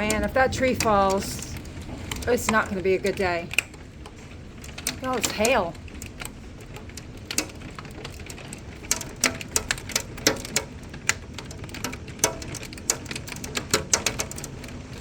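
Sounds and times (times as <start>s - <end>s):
hailstones striking hard surfaces: 0.0s - 15.0s.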